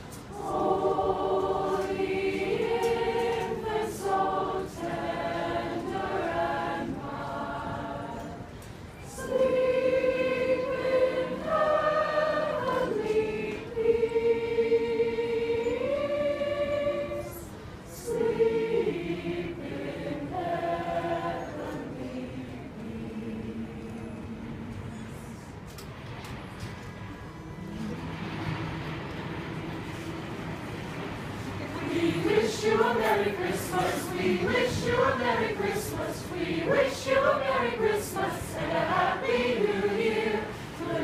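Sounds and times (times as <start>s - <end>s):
mixed choir singing a cappella: 0.0s - 25.6s, 27.7s - 41.0s.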